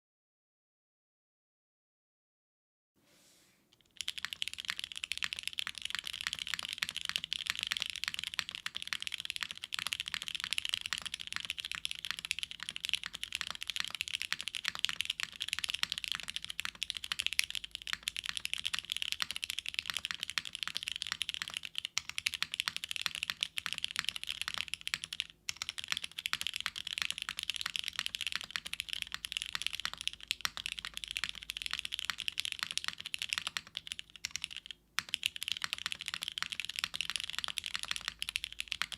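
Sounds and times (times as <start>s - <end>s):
fast typing on mechanical keyboard: 3.8s - 38.9s.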